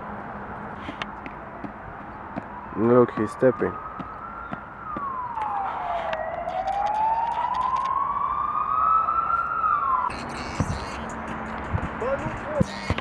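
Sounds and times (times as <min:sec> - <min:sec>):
emergency siren wailing: 0:01.4 - 0:12.2.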